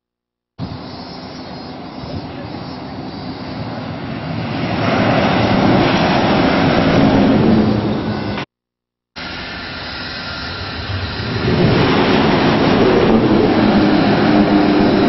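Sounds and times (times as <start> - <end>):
train passing at high speed: 0.6 - 8.5, 9.2 - 15.0.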